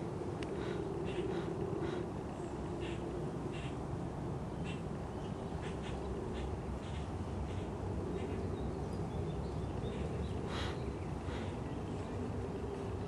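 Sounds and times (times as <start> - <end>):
birds calling: 0.0 - 3.8, 4.5 - 13.0.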